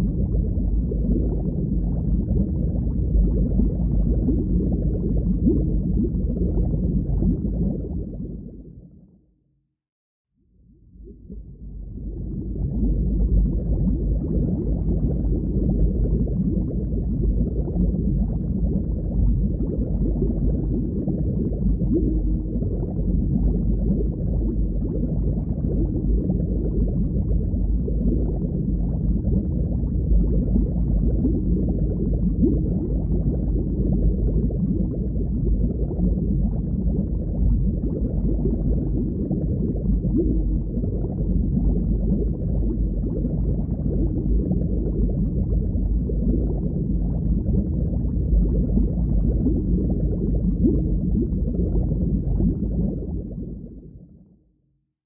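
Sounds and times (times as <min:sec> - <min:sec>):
muffled underwater water rush: 0:00.0 - 0:09.2, 0:10.6 - 0:54.5.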